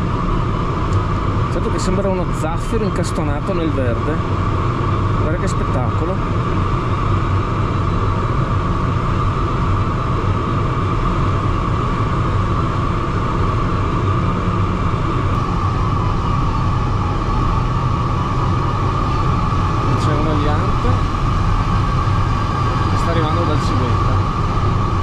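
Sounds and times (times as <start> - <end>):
air rushing around glider canopy: 0.0 - 25.0.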